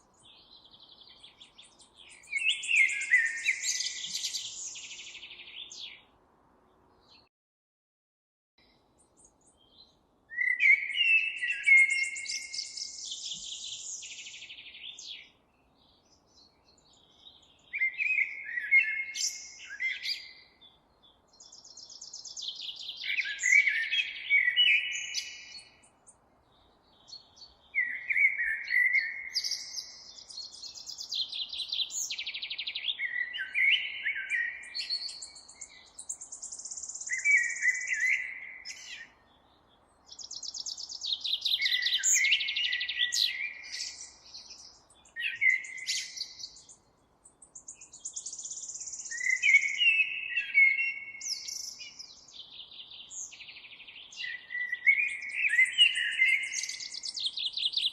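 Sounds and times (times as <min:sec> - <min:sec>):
songbird singing: 0:00.0 - 0:07.3, 0:08.6 - 0:57.9.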